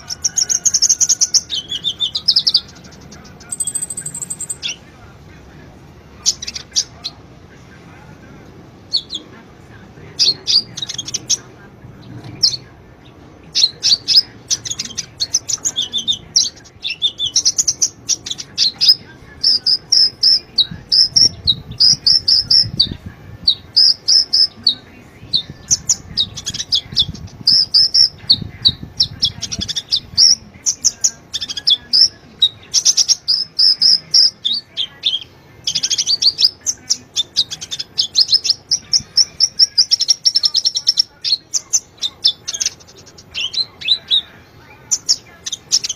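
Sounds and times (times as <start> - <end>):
sunbird chirping and trilling: 0.0 - 4.9, 12.4 - 45.9.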